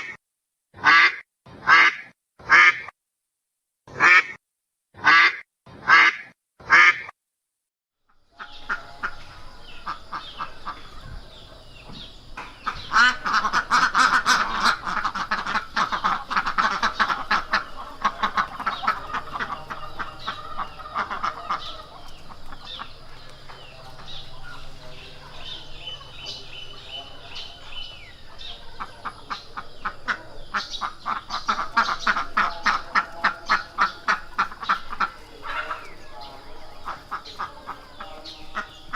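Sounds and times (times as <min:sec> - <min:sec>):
ducks quacking: 0:00.8 - 0:02.9, 0:03.9 - 0:04.4, 0:05.0 - 0:07.1, 0:08.1 - 0:38.9.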